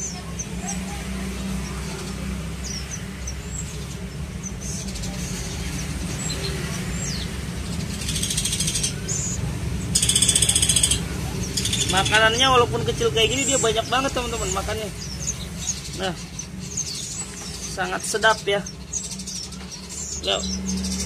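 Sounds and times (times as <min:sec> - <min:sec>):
motorbike traffic rumble: 0:00.0 - 0:21.0
nestling birds chirping: 0:00.0 - 0:21.0.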